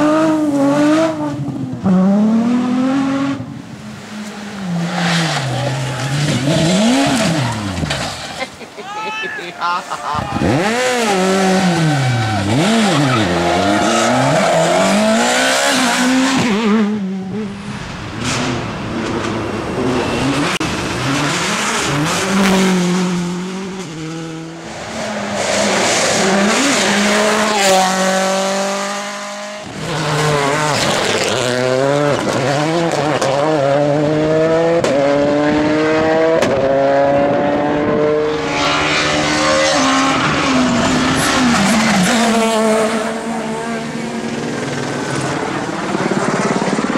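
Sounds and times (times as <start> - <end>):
rally car engines revving: 0.0 - 8.8, 9.6 - 46.9.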